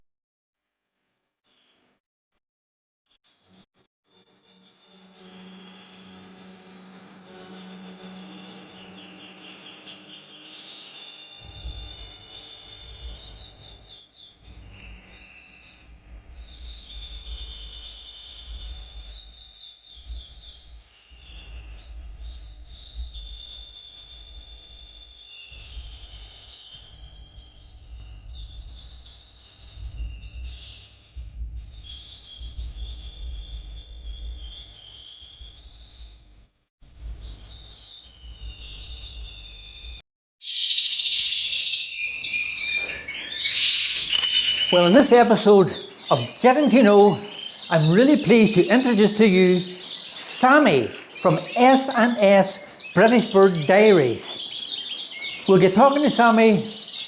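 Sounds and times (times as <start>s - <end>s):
songbirds singing trills: 4.3s - 36.2s, 40.5s - 57.0s.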